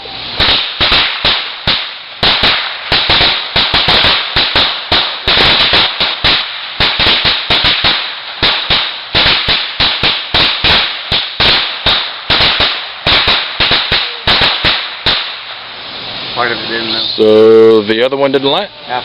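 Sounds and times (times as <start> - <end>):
firecrackers banging: 0.0 - 18.6.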